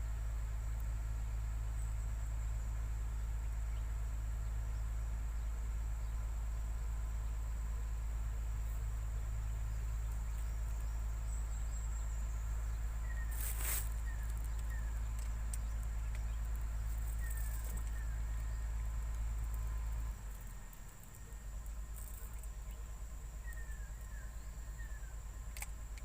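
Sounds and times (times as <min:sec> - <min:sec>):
insects buzzing: 0:00.0 - 0:26.0
rustle: 0:00.0 - 0:26.0.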